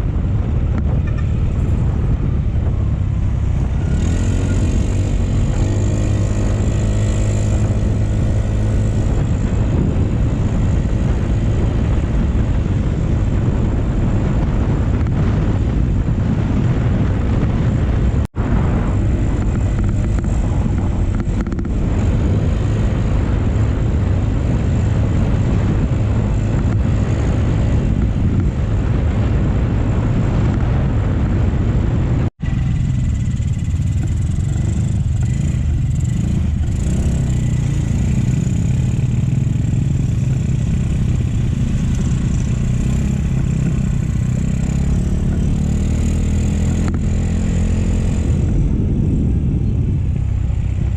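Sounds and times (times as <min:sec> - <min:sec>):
motorcycle engine running: 0:00.0 - 0:50.9
wind on microphone: 0:00.0 - 0:50.9.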